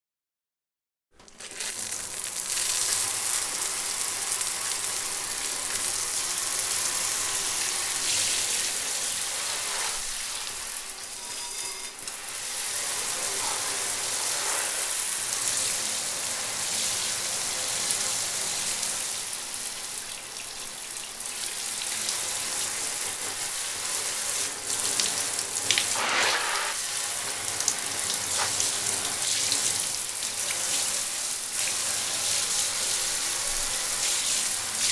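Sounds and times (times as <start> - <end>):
shower water spray hissing: 1.5 - 34.9.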